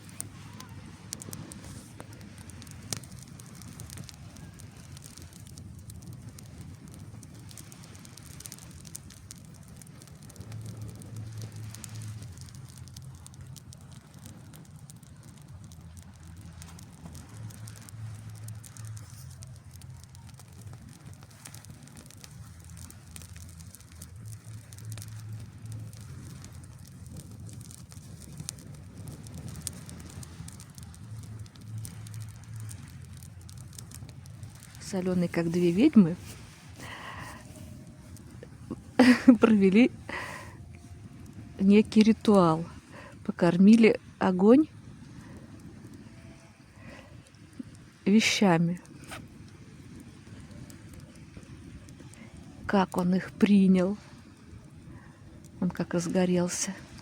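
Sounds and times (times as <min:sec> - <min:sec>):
campfire crackling and popping: 0:00.0 - 0:57.0
low rumble: 0:00.0 - 0:57.0.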